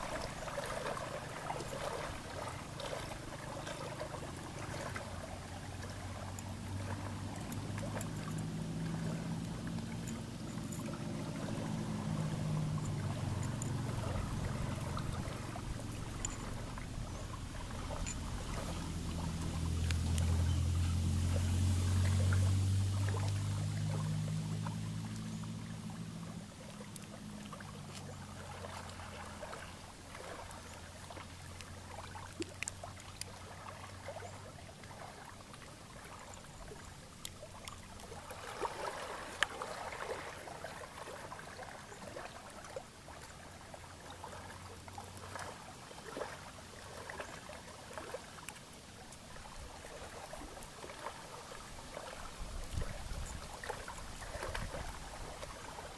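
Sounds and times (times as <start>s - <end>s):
motorboat engine hum: 0.0s - 55.9s
water lapping at shore: 0.0s - 55.9s.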